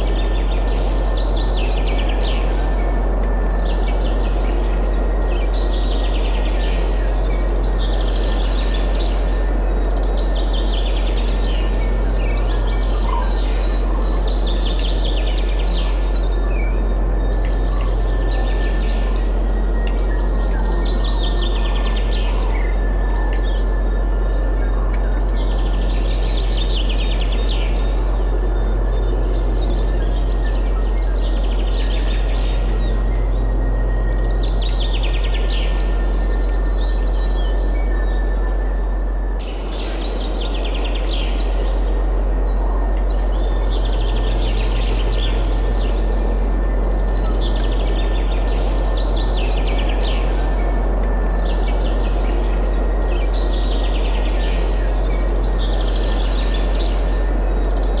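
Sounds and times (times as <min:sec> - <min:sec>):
small songbirds chirping: 0:00.0 - 0:58.0
wind with deep rumble: 0:00.0 - 0:58.0.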